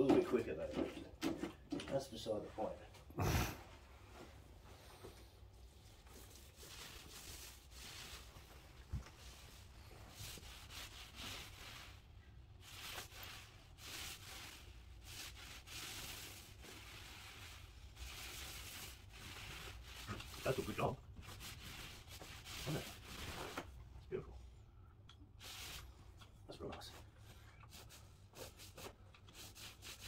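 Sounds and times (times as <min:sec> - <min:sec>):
paint roller swishing on wall: 0:03.9 - 0:23.9, 0:25.4 - 0:30.0.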